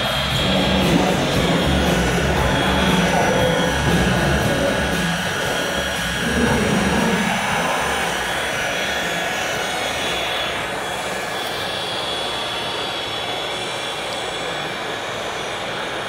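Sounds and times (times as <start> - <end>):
hydraulic pump whining: 0.0 - 16.0.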